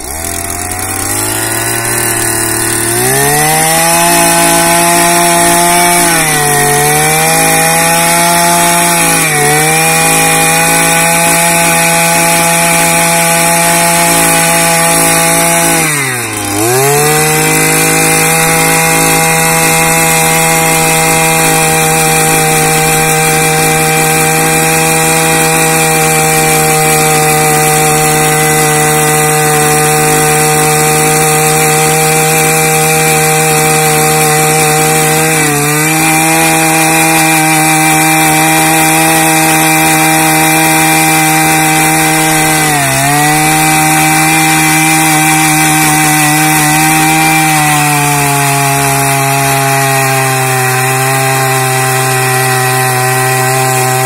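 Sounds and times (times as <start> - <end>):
earth auger engine drilling: 0.0 - 54.0.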